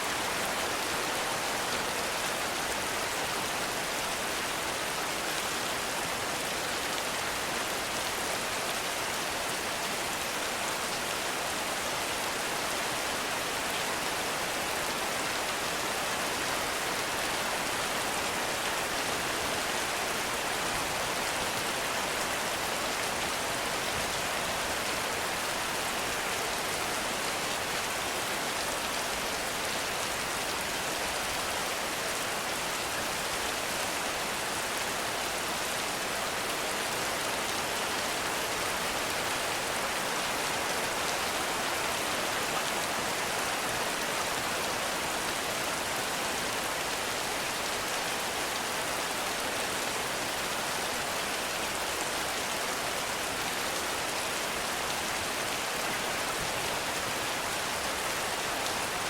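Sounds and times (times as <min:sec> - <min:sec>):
heavy rain in forest: 0:00.0 - 0:59.0.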